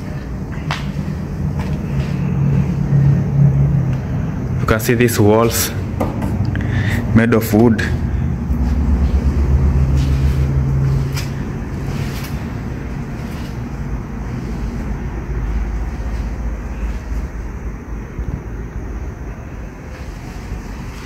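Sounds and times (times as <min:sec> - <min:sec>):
low hum: 0:00.0 - 0:21.0
steady low rumble: 0:00.0 - 0:21.0.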